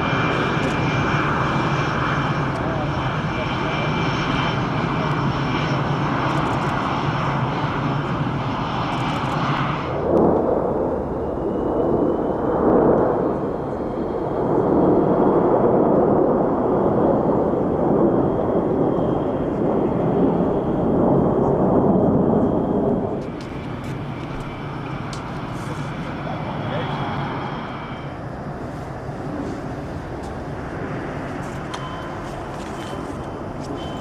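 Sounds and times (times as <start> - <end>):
jet engines whining: 0.0 - 34.0
jets roaring overhead: 0.0 - 34.0.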